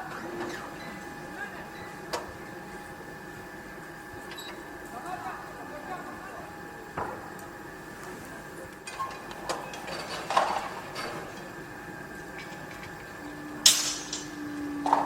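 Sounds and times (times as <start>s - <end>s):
faint machinery hum: 0.0s - 15.0s.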